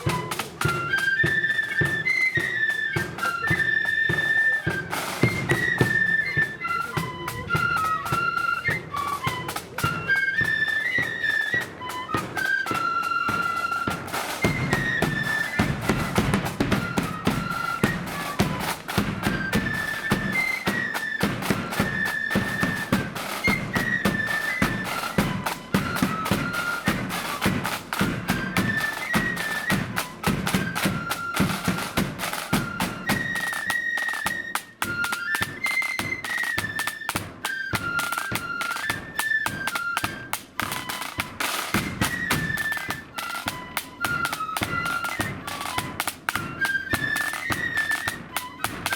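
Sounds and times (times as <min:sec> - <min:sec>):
flutes playing a march melody: 0:00.0 - 0:48.9
snare drum beats: 0:00.0 - 0:48.9.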